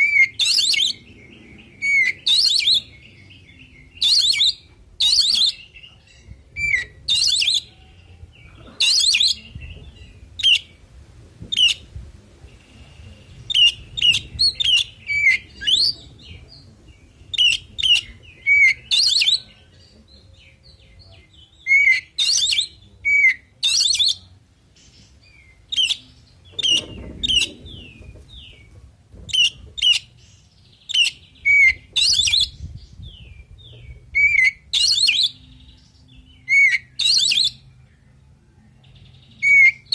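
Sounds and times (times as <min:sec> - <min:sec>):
bird singing chattering notes: 0:00.0 - 0:07.7, 0:08.4 - 0:10.8, 0:12.4 - 0:24.2, 0:24.8 - 0:37.9.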